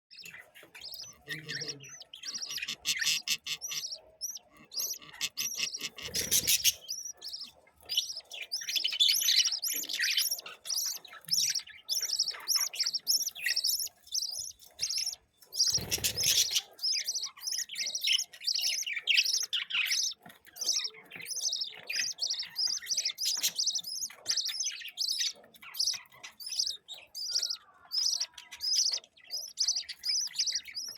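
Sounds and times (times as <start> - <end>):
budgerigars chirping and warbling: 0.1 - 30.9.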